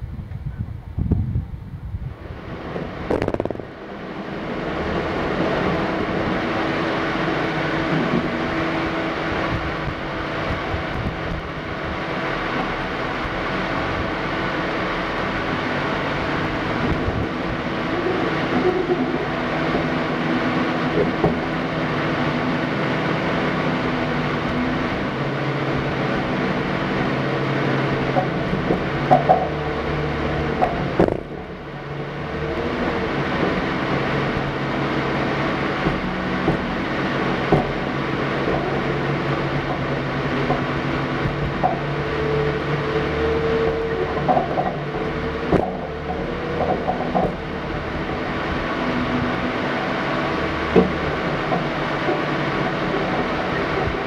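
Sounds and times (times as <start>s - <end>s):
car engine running under load: 0.0s - 54.0s.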